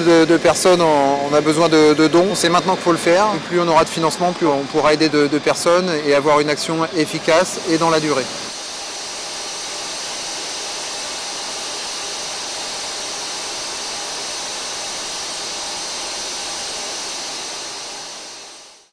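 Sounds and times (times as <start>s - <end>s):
jet aircraft turbine rushing: 0.0s - 18.9s.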